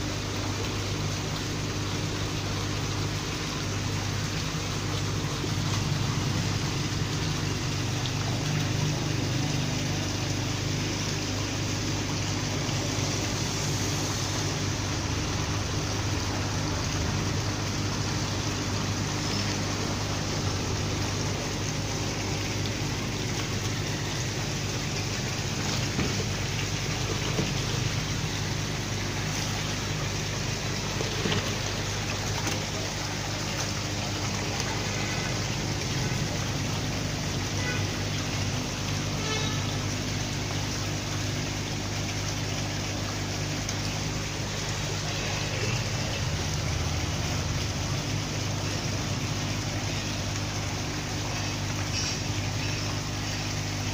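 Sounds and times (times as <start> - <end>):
water flowing and splashing: 0.0 - 53.9.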